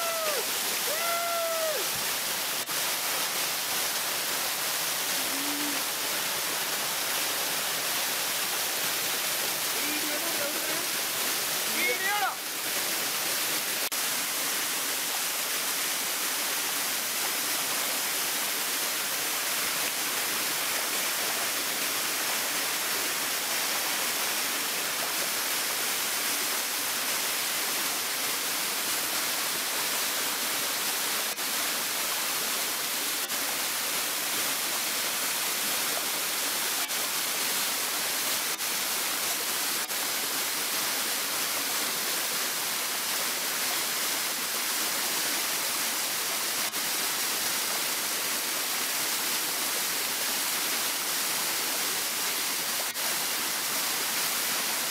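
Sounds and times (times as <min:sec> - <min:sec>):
waterfall water pouring: 0:00.0 - 0:54.9.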